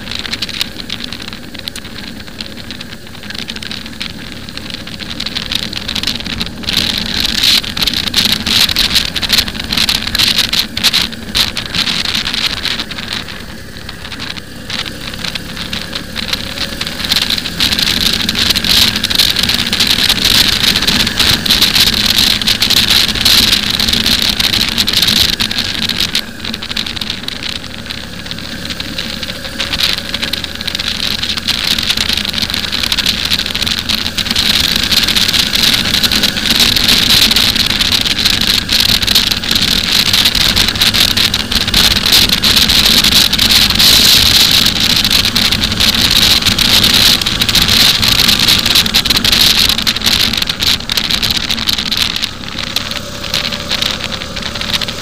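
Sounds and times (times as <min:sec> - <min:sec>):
motorcycle engine hum: 0:00.0 - 0:55.0
wind buffeting microphone: 0:00.0 - 0:55.0.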